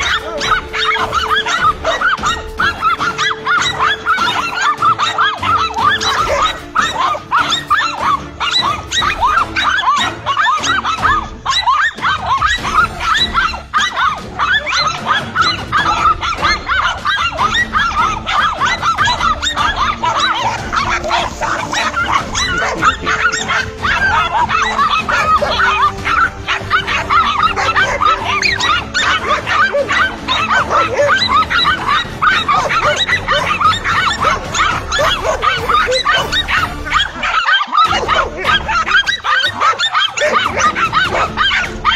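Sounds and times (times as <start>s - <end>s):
dogs barking and yapping: 0.0s - 41.9s
faint music: 0.0s - 41.9s.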